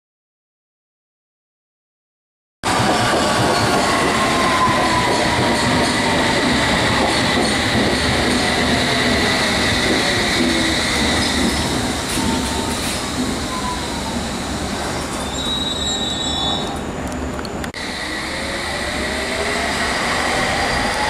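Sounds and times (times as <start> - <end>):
train rumbling: 2.6 - 21.0
high wheel squeal: 2.7 - 16.9, 17.8 - 21.0.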